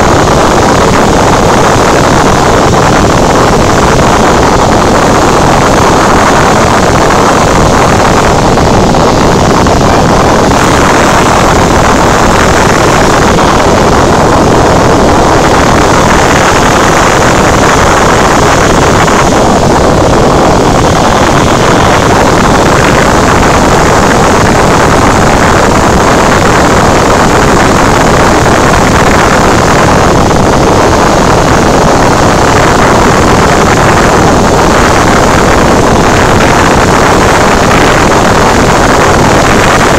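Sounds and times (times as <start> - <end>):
airplane engine and propeller: 0.0 - 39.9
rushing airflow: 0.0 - 39.9.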